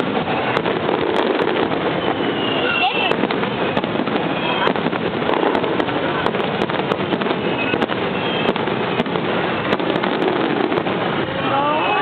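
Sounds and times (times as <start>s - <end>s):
crackling rumble: 0.0s - 11.6s
fireworks bursting: 0.0s - 12.0s.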